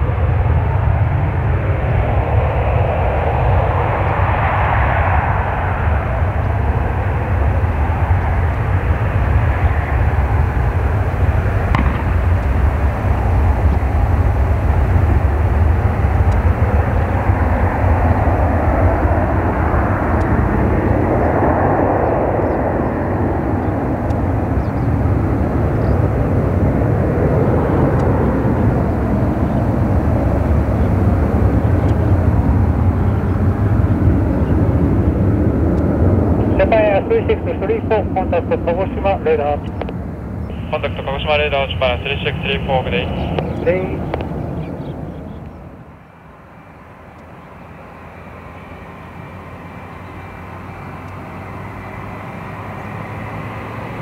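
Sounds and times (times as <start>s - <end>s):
jet airliner engines rumbling: 0.0s - 54.0s.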